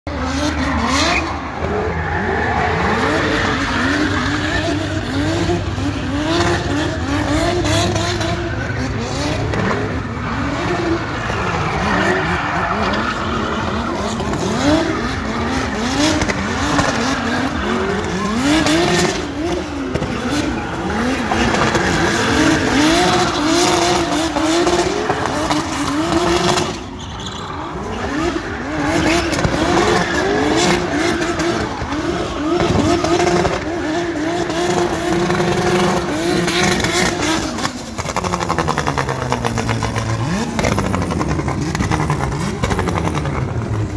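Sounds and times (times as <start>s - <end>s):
car engines revving hard: 0.0s - 43.9s
tyres squealing and skidding: 0.1s - 43.9s.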